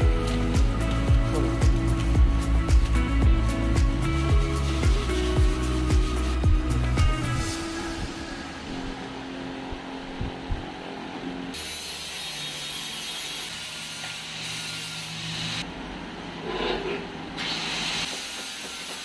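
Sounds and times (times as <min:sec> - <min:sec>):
workshop background noise: 0:00.0 - 0:10.7, 0:11.5 - 0:19.0.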